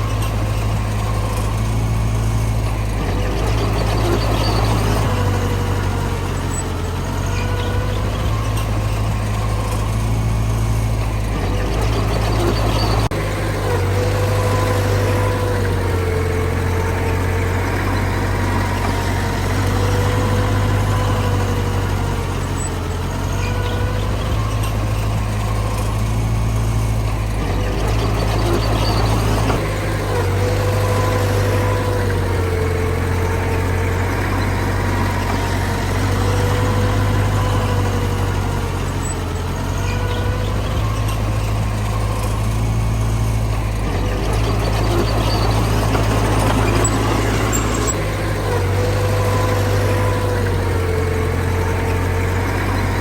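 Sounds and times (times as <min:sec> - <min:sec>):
diesel machinery rumbling: 0:00.0 - 0:53.0
machine whine: 0:00.0 - 0:53.0.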